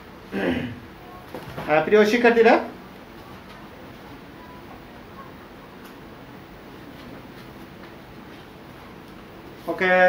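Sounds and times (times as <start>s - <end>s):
low room hiss: 0.0s - 10.0s.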